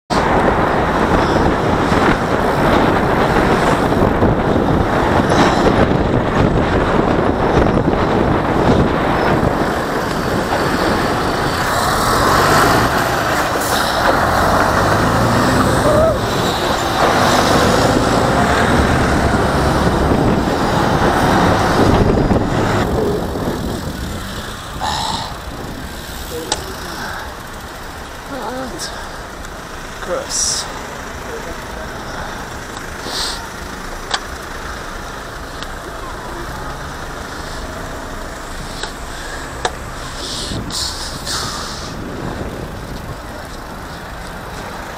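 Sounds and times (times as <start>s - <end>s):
wind rushing on microphone: 0.1s - 29.5s, 32.0s - 44.9s
city traffic: 0.1s - 44.9s
truck passing: 0.1s - 44.9s.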